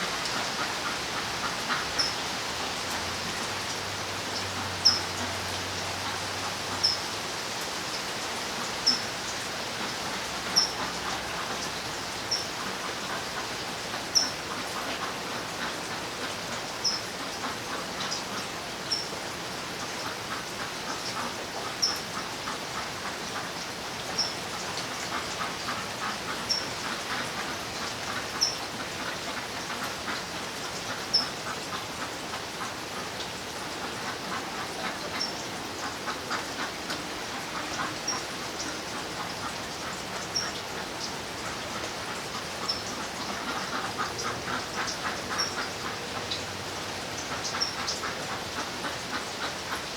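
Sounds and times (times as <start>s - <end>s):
rain pattering: 0.0s - 49.9s.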